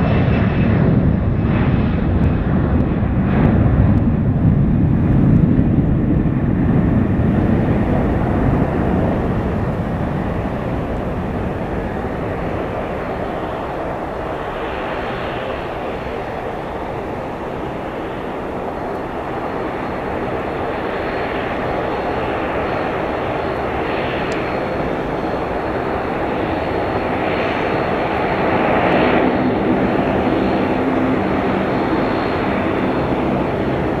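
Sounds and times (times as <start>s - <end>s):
jet engines at takeoff: 0.0s - 34.0s.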